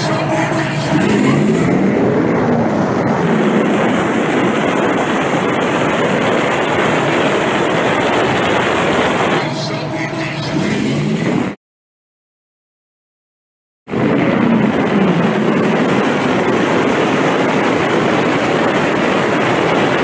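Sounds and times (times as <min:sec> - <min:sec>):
wind rushing over camera: 0:00.0 - 0:11.6, 0:13.9 - 0:20.0.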